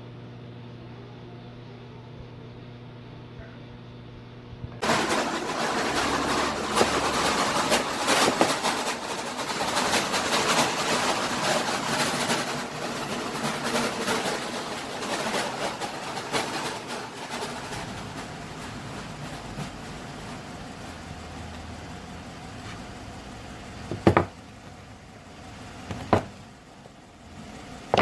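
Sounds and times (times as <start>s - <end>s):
steady low hum: 0.0s - 28.0s
engine running with ticking clatter: 4.8s - 28.0s.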